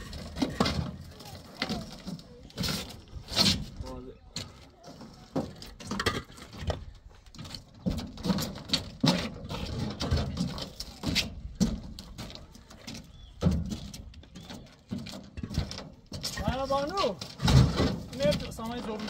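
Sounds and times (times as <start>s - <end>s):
concrete blocks knocking and scraping: 0.0s - 19.0s.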